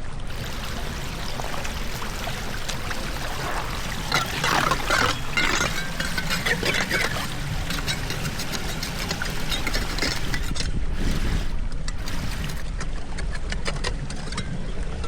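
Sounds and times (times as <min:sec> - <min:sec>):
floodwater running and splashing: 0:00.0 - 0:13.4
low water rumble: 0:00.0 - 0:15.0.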